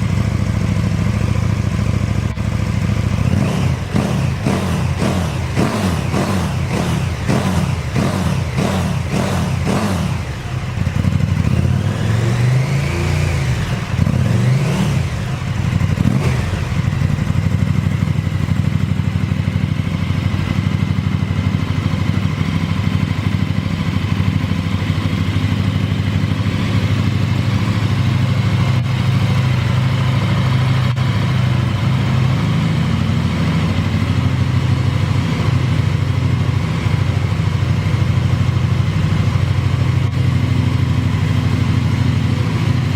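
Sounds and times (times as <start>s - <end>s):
motorcycle engine revving and idling: 0.0s - 42.9s.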